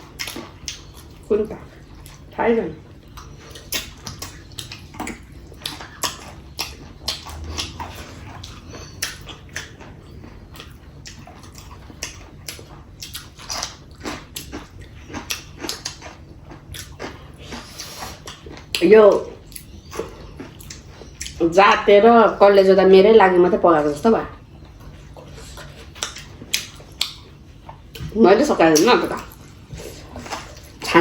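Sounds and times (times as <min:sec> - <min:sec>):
chewing and lip-smacking: 0:00.0 - 0:21.5, 0:24.3 - 0:31.0.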